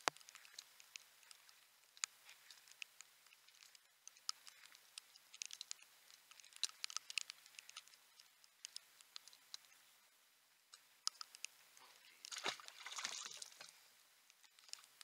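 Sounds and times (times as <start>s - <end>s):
raindrops ticking on camera case: 0.0s - 10.0s, 10.6s - 15.0s.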